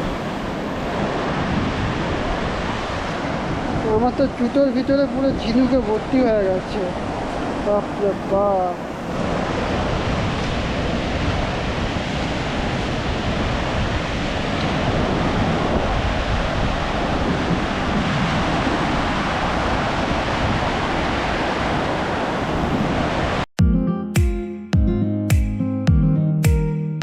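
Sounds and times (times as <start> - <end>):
sea surf washing onto beach: 0.0 - 23.5
wind rumbling on microphone: 0.0 - 23.5.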